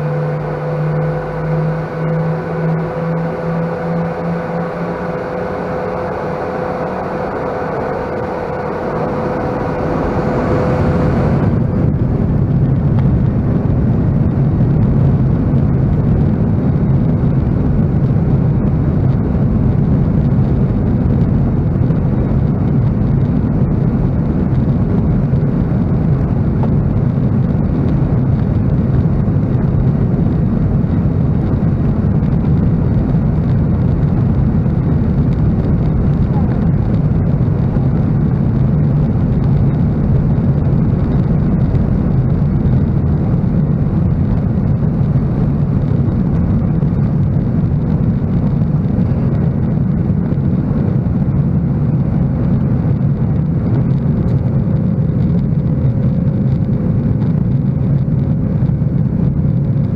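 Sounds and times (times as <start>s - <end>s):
deep cabin rumble: 0.0s - 59.9s
jet engine whine: 0.0s - 59.9s.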